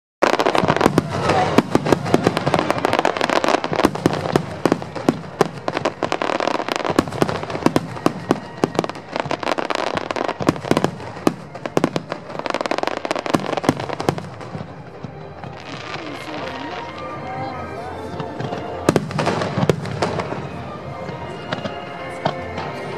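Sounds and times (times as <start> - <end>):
fireworks bangs and crackling: 0.2 - 22.9.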